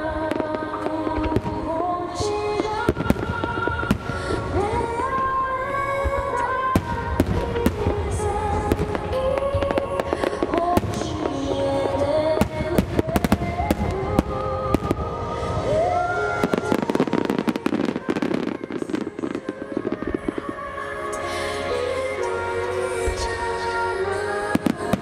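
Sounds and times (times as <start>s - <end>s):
music: 0.0s - 25.0s.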